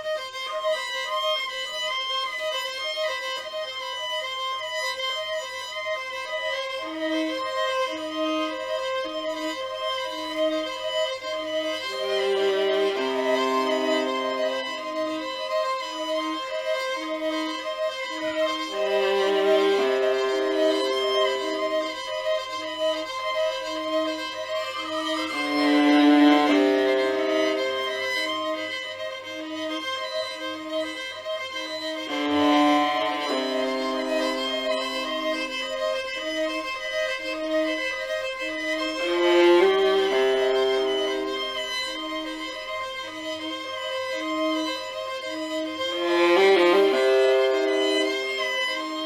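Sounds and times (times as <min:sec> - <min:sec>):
slow bowed string music: 0:00.0 - 0:49.0.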